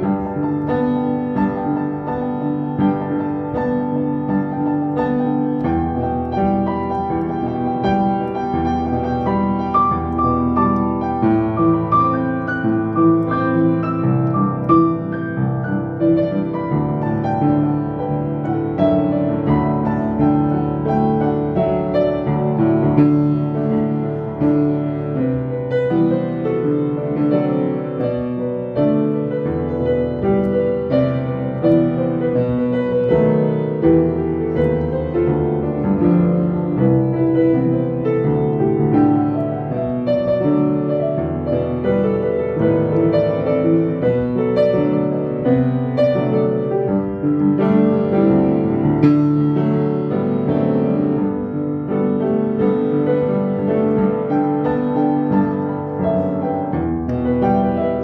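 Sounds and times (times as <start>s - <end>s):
solo piano playing pop song: 0.0s - 58.0s.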